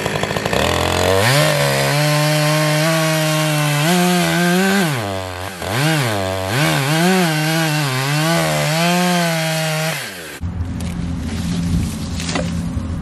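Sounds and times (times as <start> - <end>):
chainsaw cutting log: 0.0 - 10.4.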